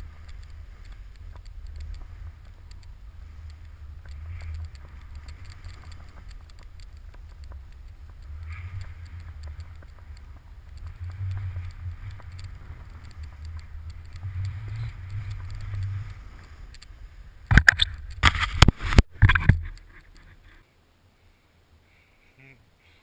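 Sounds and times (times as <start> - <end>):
wind rumble on microphone: 0.0 - 20.5.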